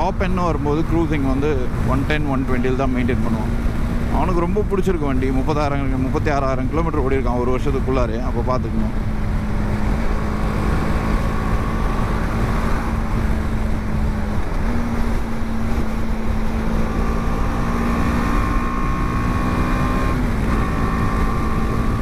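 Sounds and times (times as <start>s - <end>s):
motorcycle engine cruising: 0.0s - 22.0s
wind rush on microphone: 0.0s - 22.0s.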